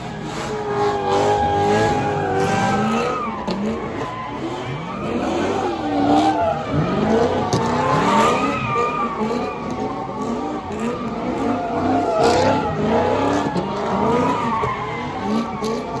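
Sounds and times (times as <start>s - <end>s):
car engine revving: 0.0s - 16.0s
tires squealing: 0.0s - 16.0s.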